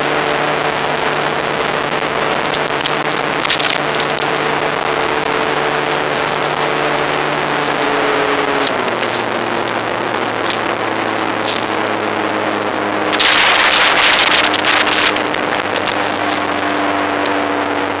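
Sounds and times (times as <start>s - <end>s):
motorcycle engine running: 0.0s - 18.0s
wind on microphone: 0.1s - 18.0s.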